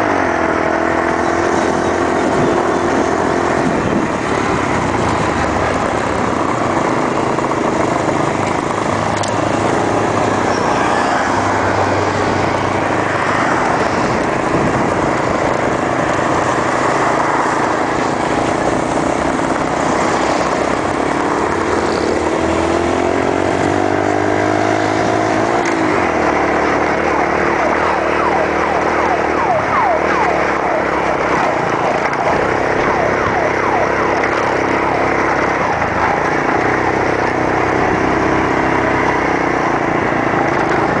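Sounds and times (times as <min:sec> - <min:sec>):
small motorcycle engine running: 0:00.0 - 0:41.0.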